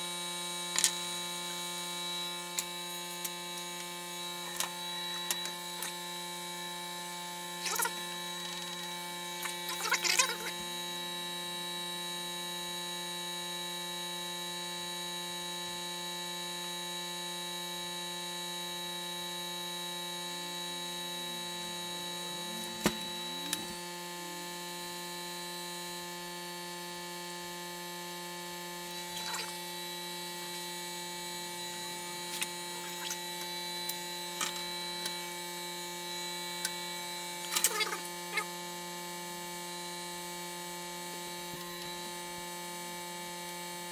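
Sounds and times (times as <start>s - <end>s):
electrical hum with whine: 0.0s - 43.9s.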